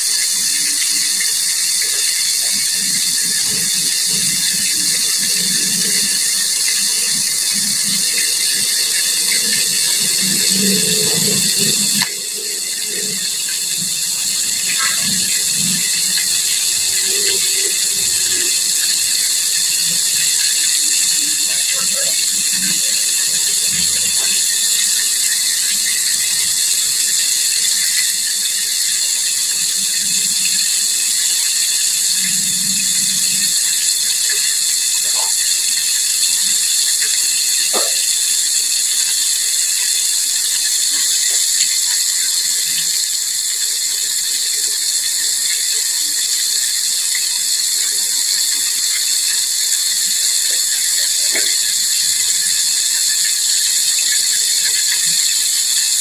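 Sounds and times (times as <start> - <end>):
hot oil sizzling and crackling: 0.0 - 56.0.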